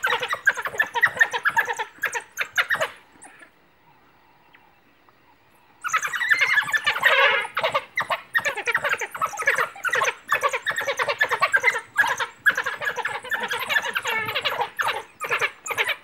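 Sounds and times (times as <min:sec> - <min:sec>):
wild dogs twittering: 0:00.0 - 0:03.6, 0:05.8 - 0:16.0.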